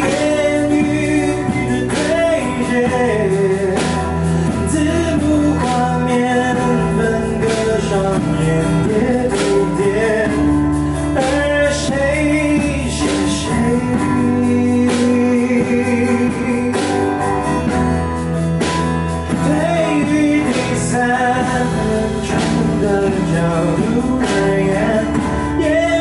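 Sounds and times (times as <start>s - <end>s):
instrumental pop accompaniment: 0.0s - 26.0s
man singing: 0.0s - 26.0s.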